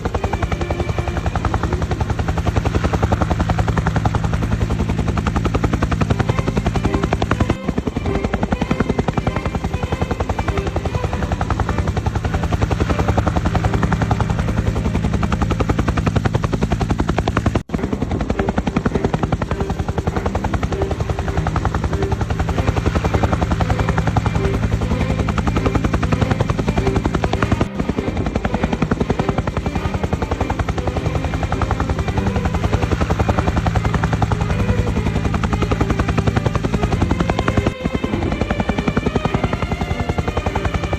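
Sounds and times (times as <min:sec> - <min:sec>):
helicopter rotor chop: 0:00.0 - 0:40.9
low engine drone: 0:00.0 - 0:40.9.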